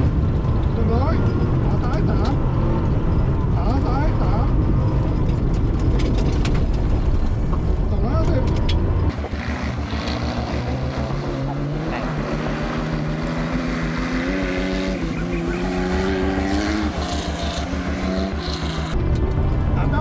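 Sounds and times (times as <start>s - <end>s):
car engine throbbing: 0.0s - 20.0s.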